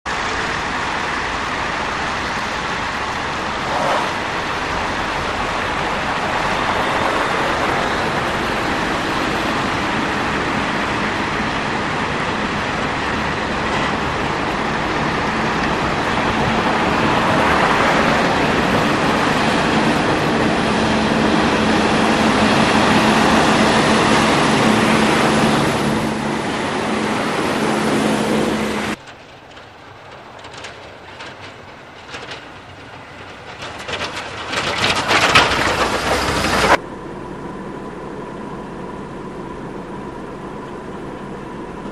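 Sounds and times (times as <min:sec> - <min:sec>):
freeway traffic rush: 0:00.0 - 0:41.9
low truck engine hum: 0:00.1 - 0:41.9.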